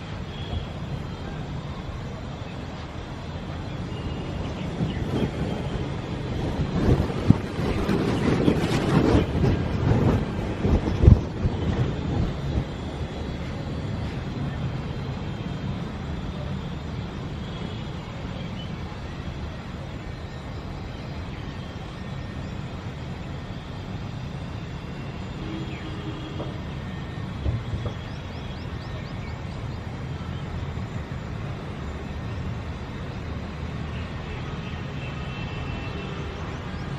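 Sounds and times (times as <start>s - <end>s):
low traffic rumble: 0.0s - 36.9s.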